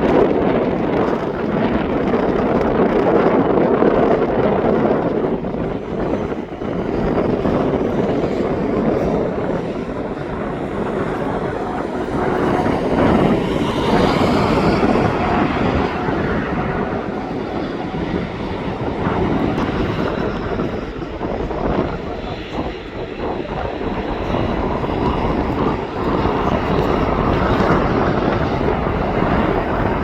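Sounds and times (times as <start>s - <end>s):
jet airliner engines passing: 0.0s - 30.0s
wind on microphone: 0.0s - 30.0s.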